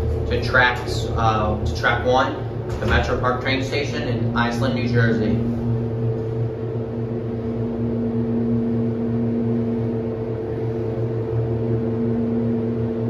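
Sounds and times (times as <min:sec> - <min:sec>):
elevator pump motor humming: 0:00.0 - 0:13.0.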